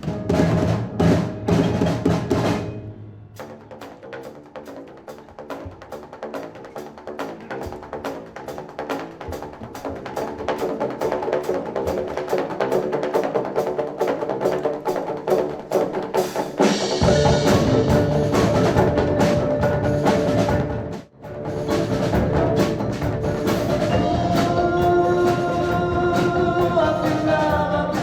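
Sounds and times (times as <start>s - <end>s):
percussion-driven drum music: 0.0s - 28.0s.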